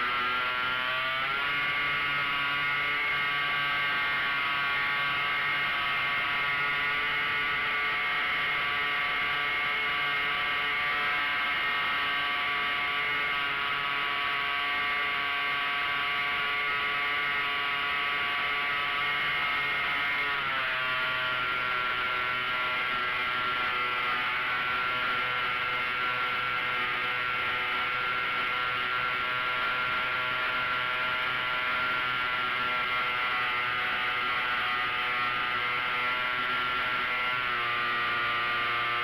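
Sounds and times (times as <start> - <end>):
model airplane engine buzzing: 0.0 - 39.0.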